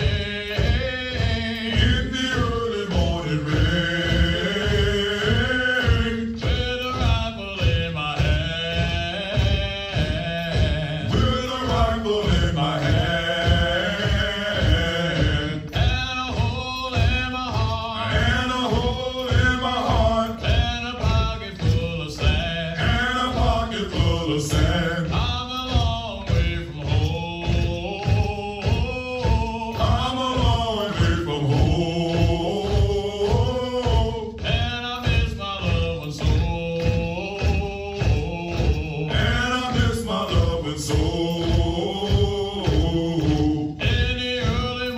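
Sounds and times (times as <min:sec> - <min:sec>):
men singing a cadence: 0:00.0 - 0:44.9
steady beat: 0:00.0 - 0:44.9.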